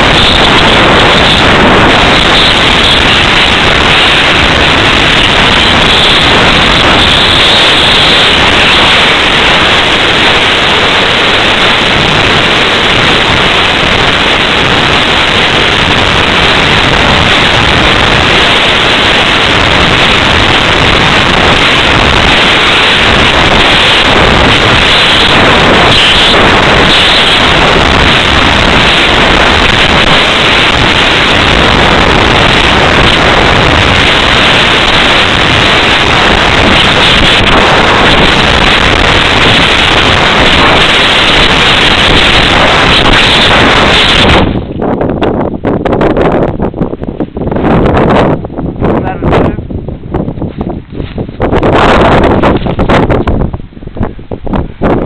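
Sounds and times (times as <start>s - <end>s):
airflow over microphone: 0.0s - 55.0s.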